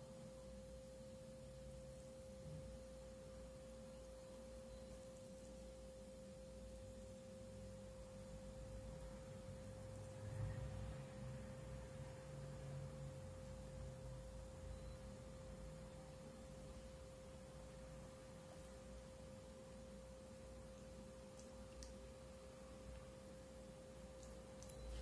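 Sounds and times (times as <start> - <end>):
faint steady pure tone: 0.0 - 25.0.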